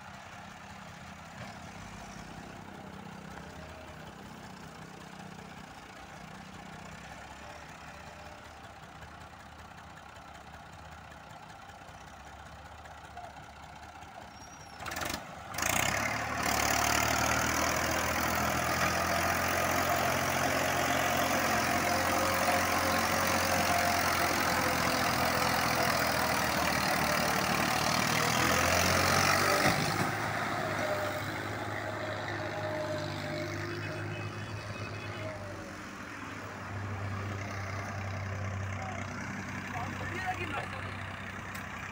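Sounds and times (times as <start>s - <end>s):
tractor engine idling and revving: 0.0s - 41.9s.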